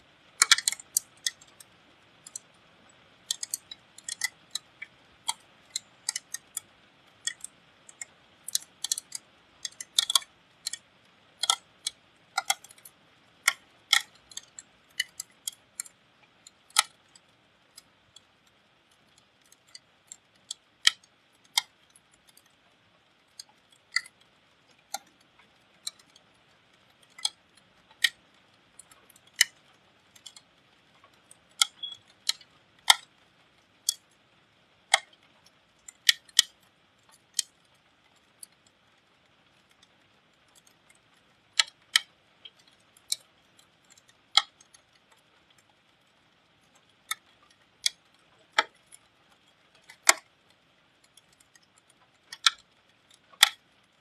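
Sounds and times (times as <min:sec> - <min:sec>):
faint rain hiss: 0:00.0 - 0:54.0
raindrops ticking on metal: 0:00.0 - 0:54.0.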